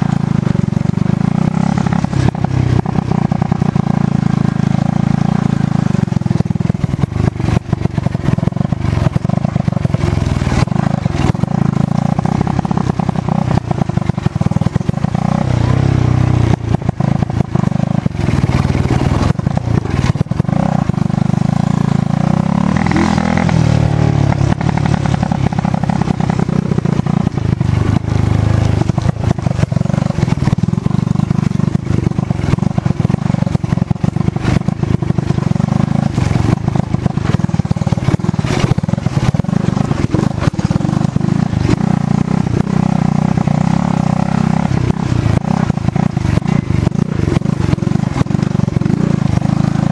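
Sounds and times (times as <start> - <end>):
buffeting and rattling: 0.0 - 49.9
dirt bike engine revving: 0.0 - 49.9.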